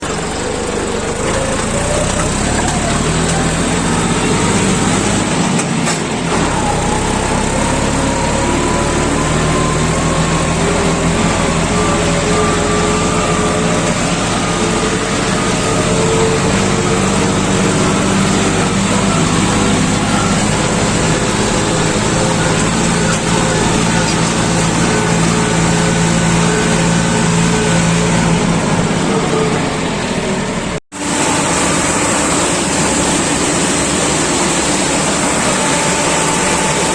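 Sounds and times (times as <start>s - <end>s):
diesel engine and machinery running: 0.0s - 36.9s
whine climbing in pitch: 6.5s - 36.9s.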